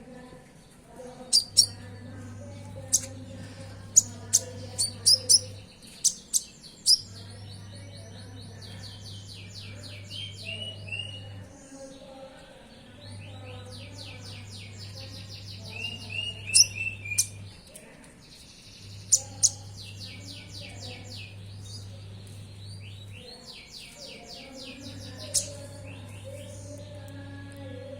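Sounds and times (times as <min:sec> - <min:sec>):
steady low hum: 0:01.2 - 0:17.6, 0:18.5 - 0:27.9.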